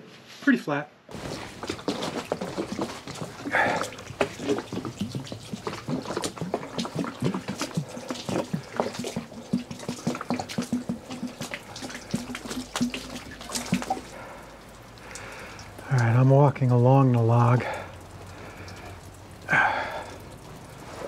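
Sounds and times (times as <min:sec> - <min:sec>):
water glugging and splashing: 0:01.1 - 0:21.0.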